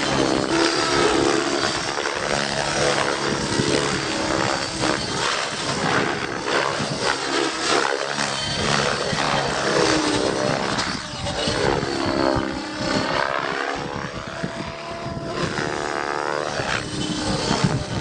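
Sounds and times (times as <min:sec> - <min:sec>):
model helicopter rotor whine: 0:00.0 - 0:18.0.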